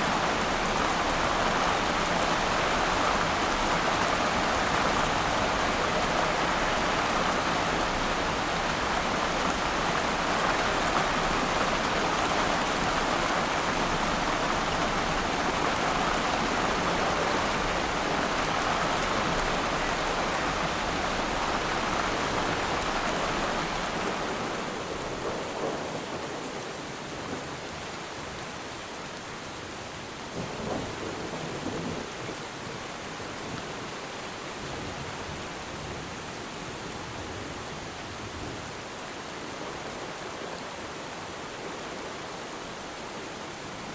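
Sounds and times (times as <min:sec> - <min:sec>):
rain falling on water: 0:00.0 - 0:43.9.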